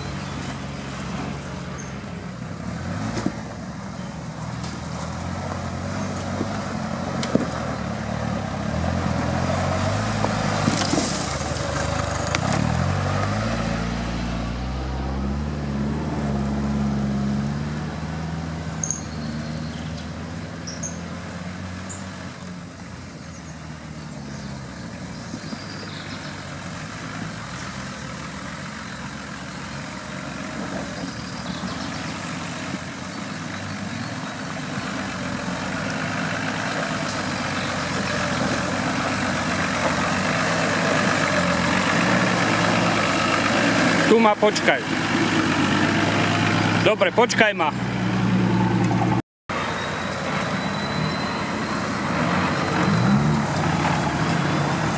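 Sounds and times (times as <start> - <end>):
off-road vehicle engine under load: 0.0 - 54.9.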